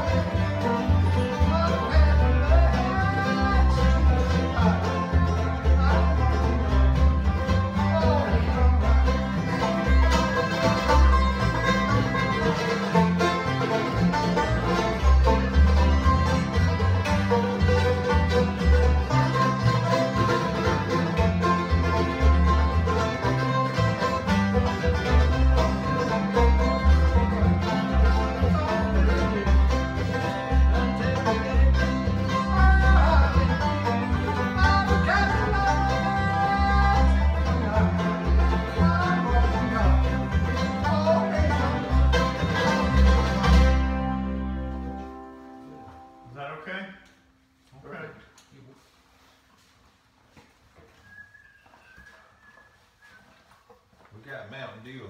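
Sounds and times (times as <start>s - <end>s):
banjo picking: 0.0s - 46.5s
upright bass: 0.0s - 46.6s
acoustic guitar: 0.0s - 48.1s.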